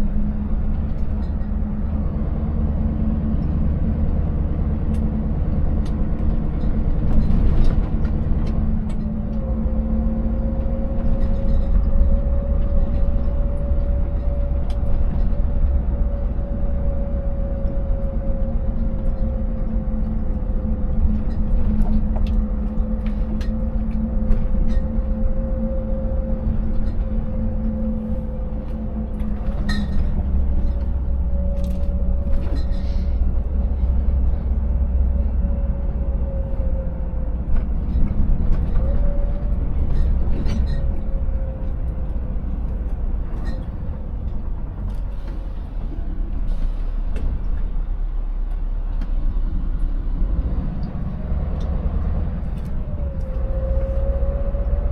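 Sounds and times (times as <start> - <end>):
diesel truck engine hum: 0.0 - 54.9.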